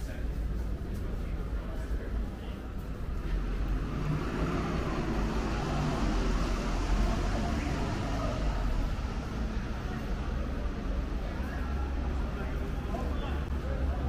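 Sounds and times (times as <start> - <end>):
distant city traffic rumble: 0.0 - 14.0.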